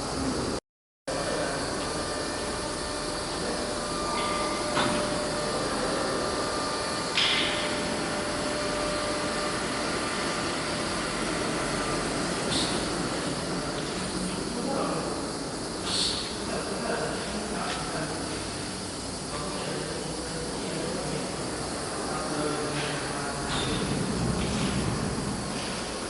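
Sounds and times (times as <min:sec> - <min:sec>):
cnc router running: 0:00.0 - 0:26.0.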